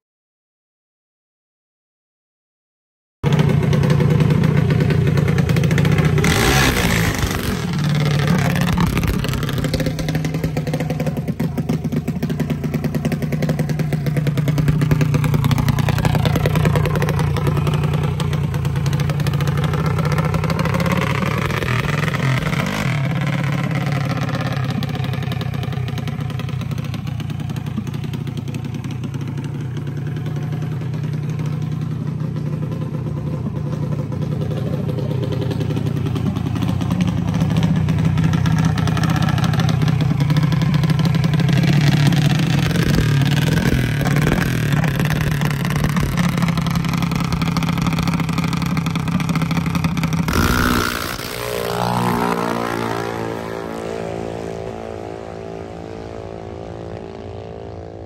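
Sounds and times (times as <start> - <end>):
dragster engine idling: 3.3 - 50.4.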